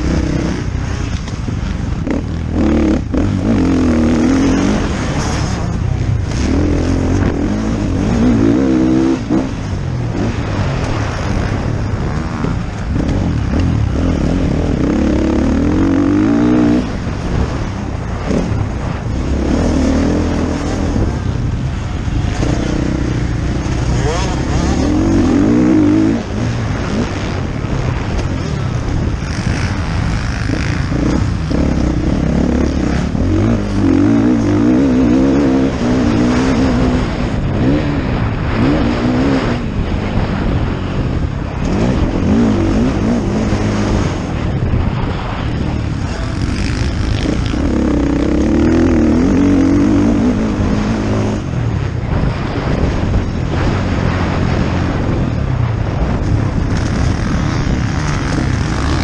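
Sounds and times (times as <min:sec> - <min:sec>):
dirt bike engine revving: 0:00.0 - 0:59.0
wind on microphone: 0:00.0 - 0:59.0.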